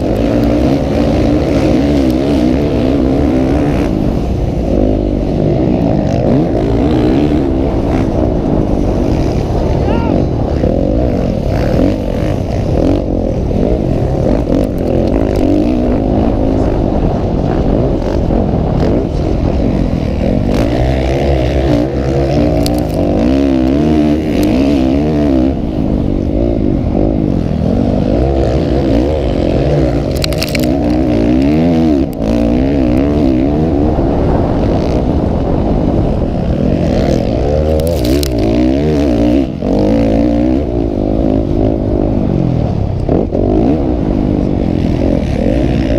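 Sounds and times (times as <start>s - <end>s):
motocross engines revving: 0.0s - 45.9s.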